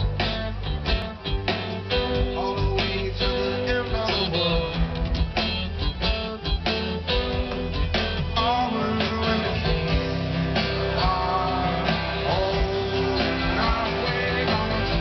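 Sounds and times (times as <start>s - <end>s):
electric guitar: 0.0s - 15.0s
heavy bass line: 0.0s - 15.0s
steady drum beat: 0.0s - 15.0s.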